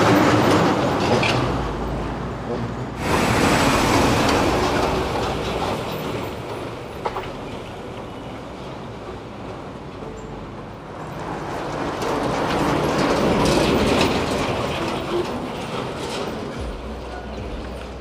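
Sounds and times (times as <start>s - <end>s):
heavy vehicle passing: 0.0s - 18.0s.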